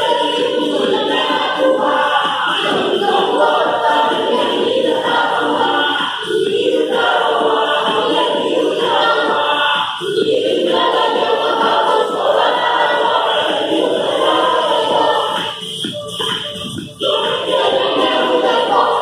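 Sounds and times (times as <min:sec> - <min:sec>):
children singing in unison: 0:00.0 - 0:19.0.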